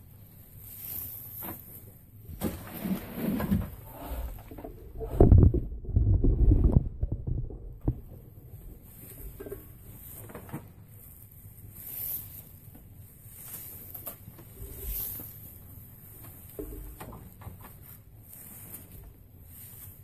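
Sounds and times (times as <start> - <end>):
braiding strands rustling: 0.0 - 5.5, 8.0 - 20.0.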